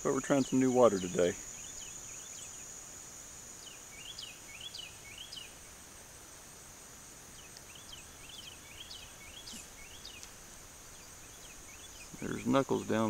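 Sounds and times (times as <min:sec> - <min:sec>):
bird chirping: 0:00.0 - 0:05.9, 0:07.3 - 0:13.0
high insect drone: 0:00.0 - 0:13.0.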